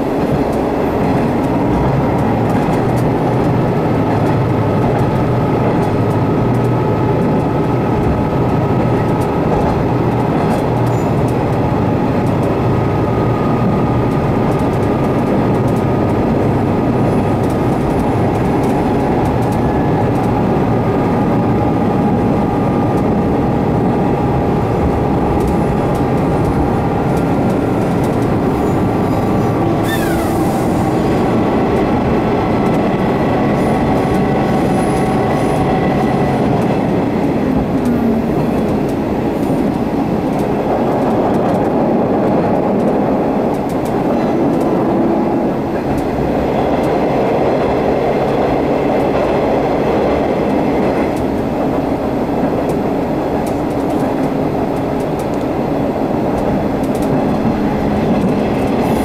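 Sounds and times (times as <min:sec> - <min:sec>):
train wheels and engine rumble: 0:00.0 - 0:59.0.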